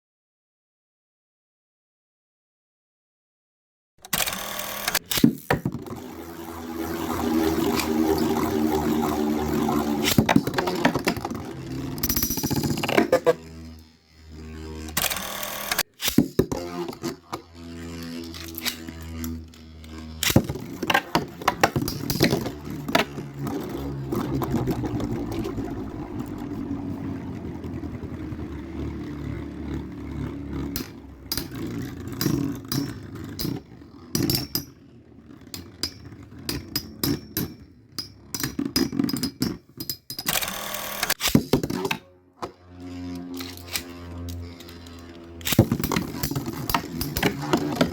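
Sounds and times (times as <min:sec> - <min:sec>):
spinning tops whirring and scraping: 0:04.0 - 0:47.9.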